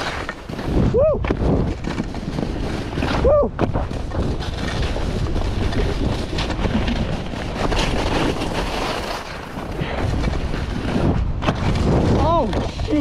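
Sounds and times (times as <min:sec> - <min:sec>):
skis scraping over snow: 0:00.0 - 0:13.0
wind buffeting microphone: 0:00.0 - 0:13.0.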